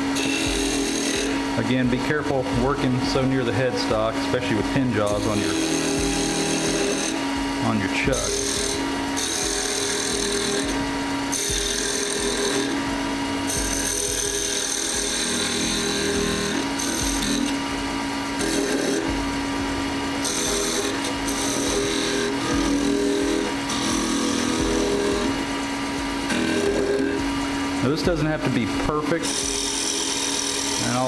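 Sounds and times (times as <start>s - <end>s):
wood lathe running: 0.0s - 31.0s.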